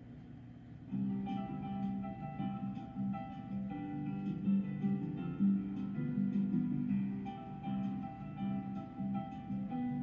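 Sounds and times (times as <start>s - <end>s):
plucked guitar music: 0.9s - 10.0s.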